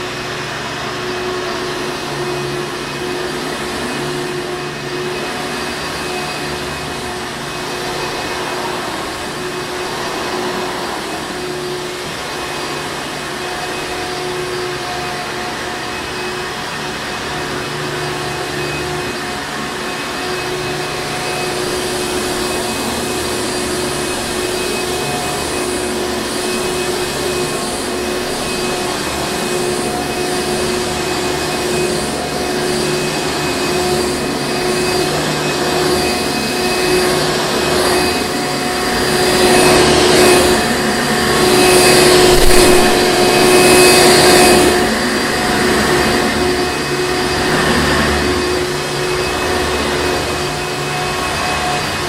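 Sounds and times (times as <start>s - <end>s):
upright vacuum cleaner running: 0.0s - 52.0s.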